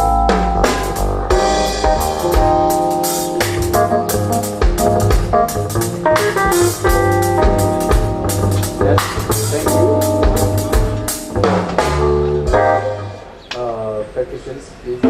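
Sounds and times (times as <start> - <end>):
band playing: 0.0 - 13.4.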